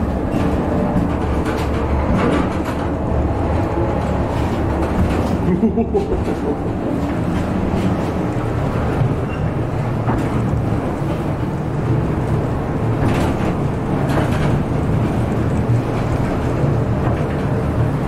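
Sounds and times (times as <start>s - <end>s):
funicular car rumbling: 0.0s - 18.0s.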